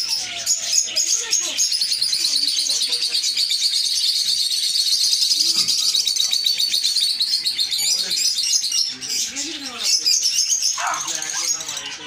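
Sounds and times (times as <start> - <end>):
birds chirping rapidly: 0.0 - 12.0.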